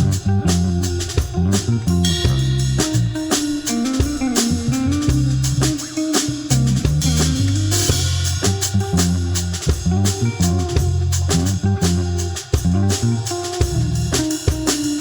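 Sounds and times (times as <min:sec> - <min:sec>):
bass guitar notes: 0:00.0 - 0:15.0
drum kit steady beat: 0:00.0 - 0:15.0
gliding guitar melody: 0:00.0 - 0:15.0.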